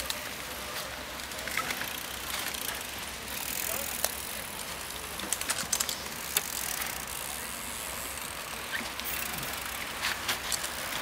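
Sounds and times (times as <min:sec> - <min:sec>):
bike tyres rolling on dirt: 0:00.0 - 0:11.0
bikes clicking and rattling: 0:00.0 - 0:11.0.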